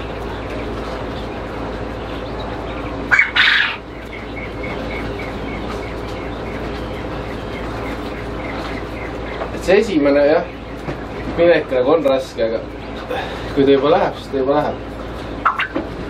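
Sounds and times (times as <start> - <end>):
bird chirping: 0.0 - 16.0
steady background hum: 0.0 - 16.0
bird squawking: 0.2 - 16.0.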